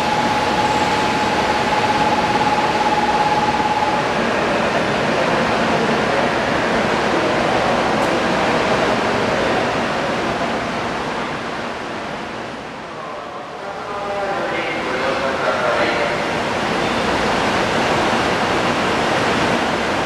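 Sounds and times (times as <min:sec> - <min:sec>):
train rushing noise: 0:00.0 - 0:20.0.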